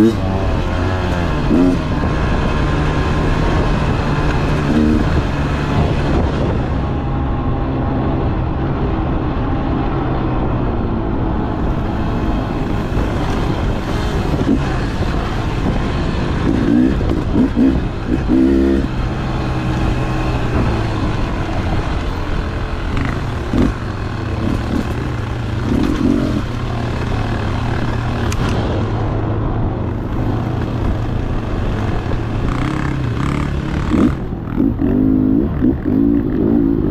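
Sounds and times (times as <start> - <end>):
dirt bike engine revving: 0.0 - 6.6, 11.7 - 28.7, 29.9 - 36.9.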